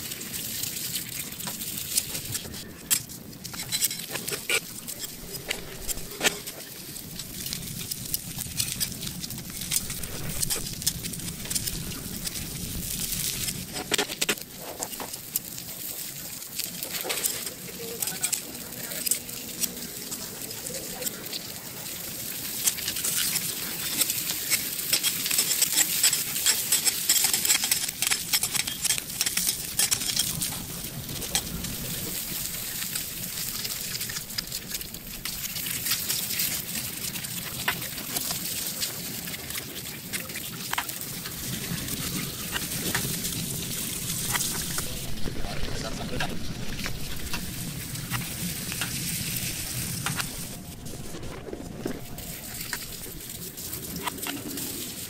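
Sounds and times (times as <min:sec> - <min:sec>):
metal spatula and tongs on griddle: 0:00.0 - 0:55.0.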